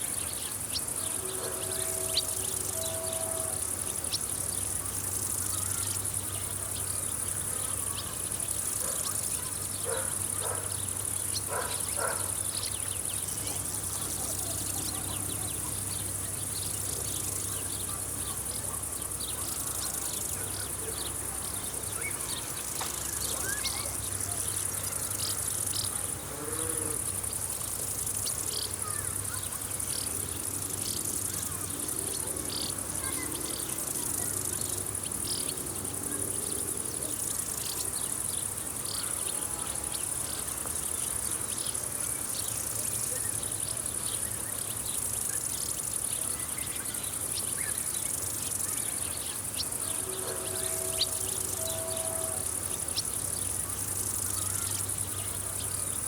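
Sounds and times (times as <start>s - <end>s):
insect chorus: 0.0s - 56.0s
short insect chirps: 0.0s - 56.0s.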